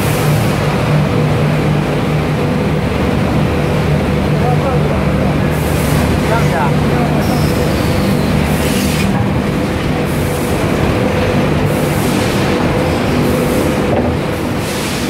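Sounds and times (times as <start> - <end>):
steady low tones: 0.0 - 14.6.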